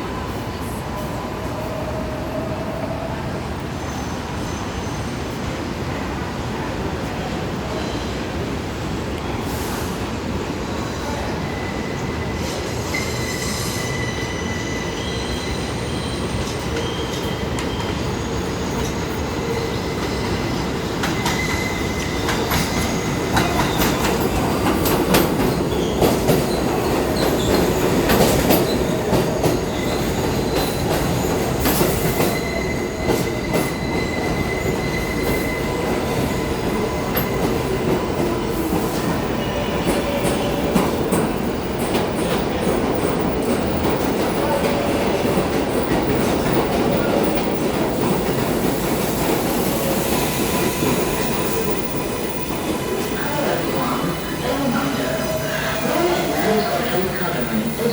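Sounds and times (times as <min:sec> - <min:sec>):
train wheels squealing: 0:03.8 - 0:05.3, 0:09.5 - 0:57.9.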